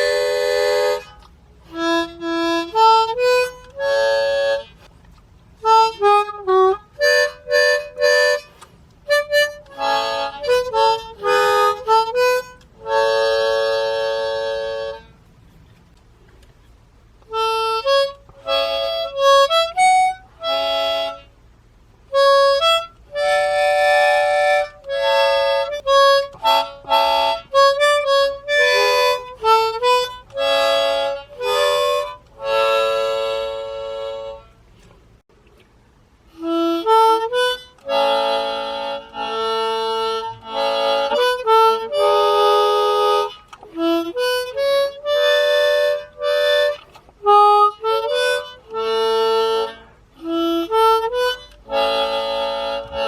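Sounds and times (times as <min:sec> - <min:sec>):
harmonica folk melody: 0:00.0 - 0:16.0, 0:16.6 - 0:35.0, 0:36.2 - 0:53.0.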